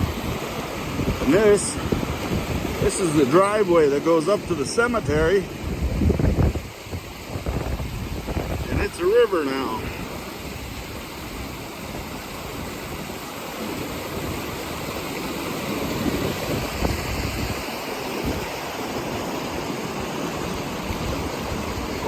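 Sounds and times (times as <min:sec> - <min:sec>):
fast-running floodwater: 0:00.0 - 0:22.0.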